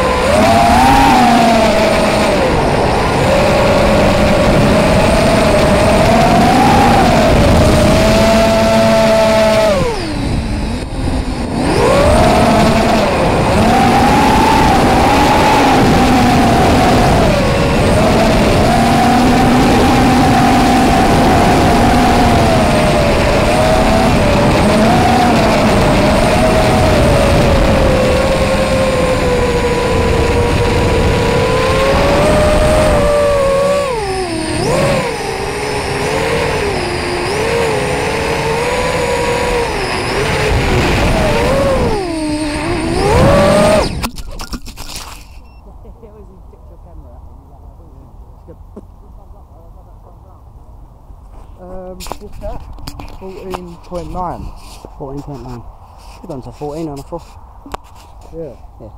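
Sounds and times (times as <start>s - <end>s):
drone motors whining: 0.0s - 47.8s.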